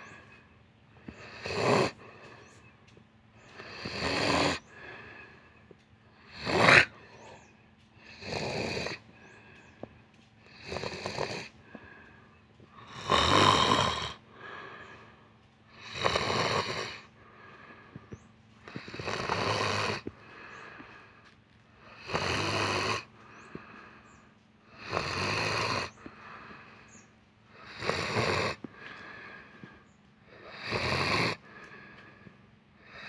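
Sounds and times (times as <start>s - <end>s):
person snoring: 1.0s - 2.6s, 3.5s - 5.5s, 6.1s - 26.9s, 27.5s - 33.0s.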